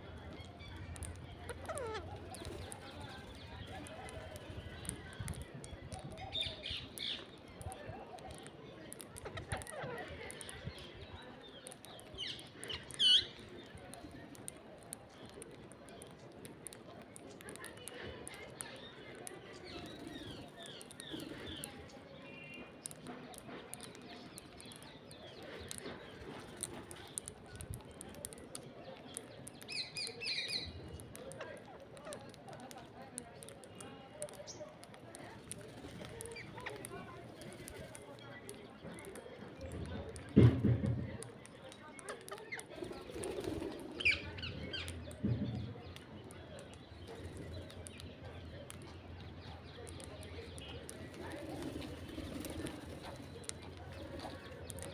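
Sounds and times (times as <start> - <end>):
beaks clicking on grain: 0.2 - 54.9.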